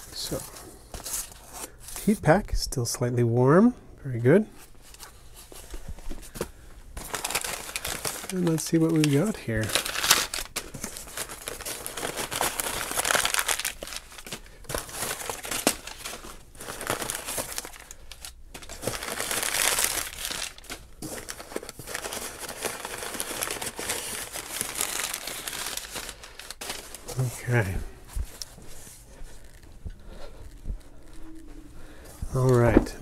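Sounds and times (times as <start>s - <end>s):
crumpled newspaper rustling: 4.8s - 33.0s.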